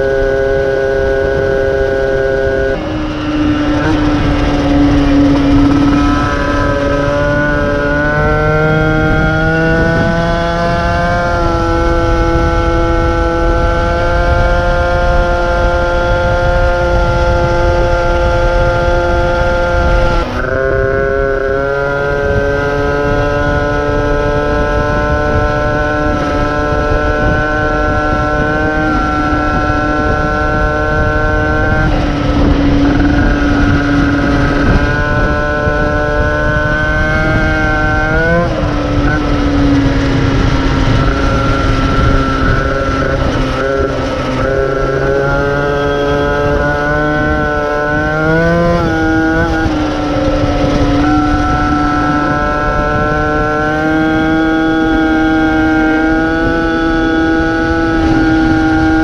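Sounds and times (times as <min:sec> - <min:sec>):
moped engine revving: 0:00.0 - 0:59.0
wind rumble on microphone: 0:00.0 - 0:59.0.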